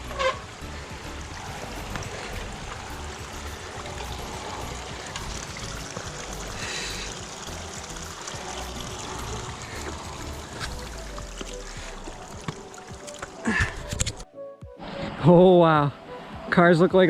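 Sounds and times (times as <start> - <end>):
water rushing down rock steps: 0.0 - 14.2.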